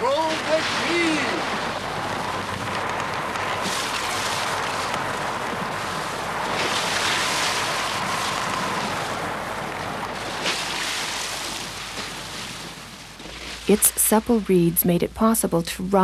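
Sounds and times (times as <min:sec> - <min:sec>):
breaking waves: 0:00.0 - 0:14.8
wind: 0:00.0 - 0:16.0.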